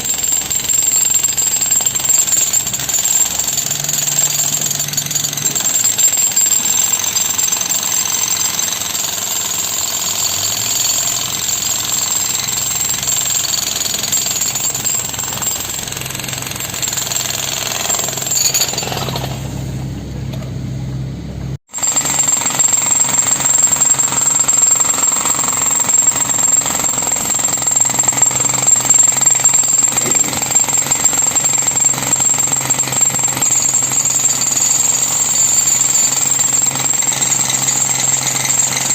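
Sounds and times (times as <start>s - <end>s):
jackhammer pounding concrete: 0.0s - 19.4s, 21.7s - 38.9s.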